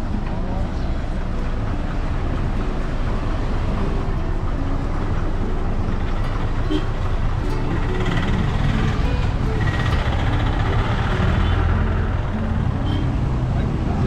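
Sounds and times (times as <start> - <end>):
bus engines rumbling: 0.0 - 14.0
street noise: 0.0 - 14.0.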